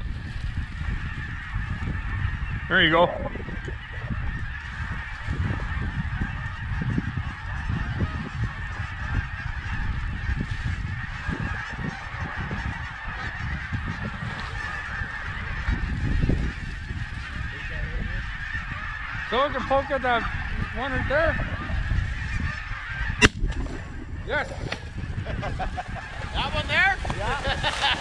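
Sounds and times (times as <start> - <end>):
flock of geese honking: 0.0 - 28.0
wind rumbling on microphone: 0.0 - 28.0.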